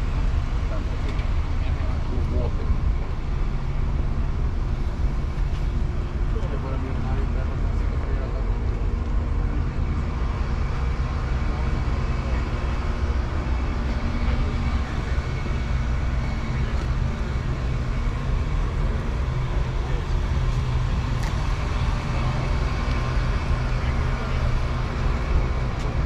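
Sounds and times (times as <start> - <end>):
car engine humming: 0.0 - 26.0
faint voices: 0.0 - 26.0.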